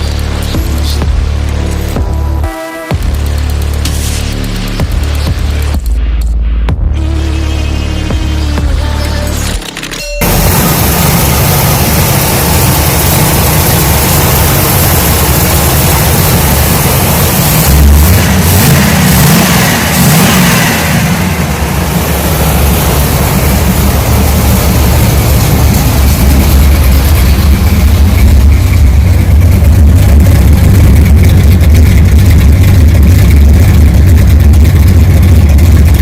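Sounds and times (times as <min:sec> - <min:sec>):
car engine running loud: 0:00.0 - 0:36.0.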